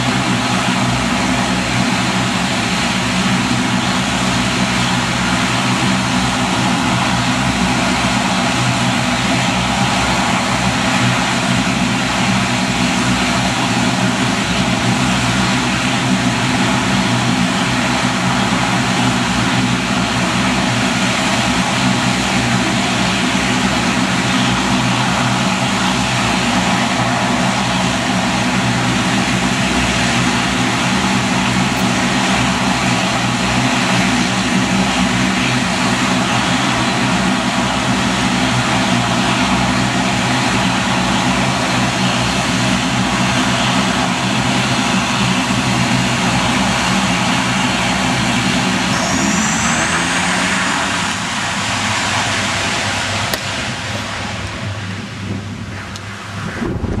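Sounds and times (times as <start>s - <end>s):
turboprop engines droning: 0.0s - 57.0s.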